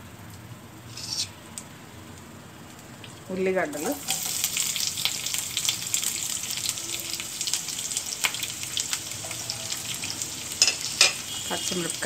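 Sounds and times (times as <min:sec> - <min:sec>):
onions sizzling in oil: 0:00.9 - 0:01.7, 0:02.7 - 0:12.0.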